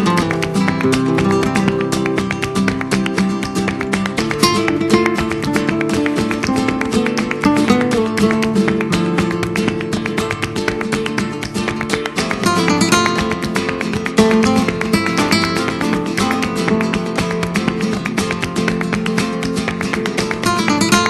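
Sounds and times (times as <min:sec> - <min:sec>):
flamenco acoustic guitar: 0:00.0 - 0:21.0.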